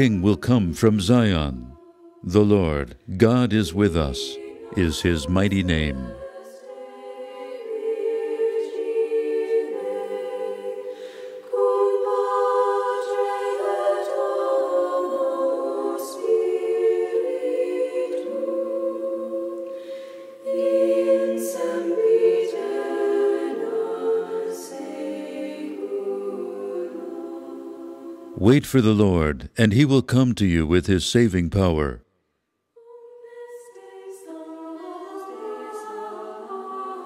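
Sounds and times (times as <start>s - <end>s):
choir singing a cappella: 0.0s - 28.4s, 32.7s - 37.0s.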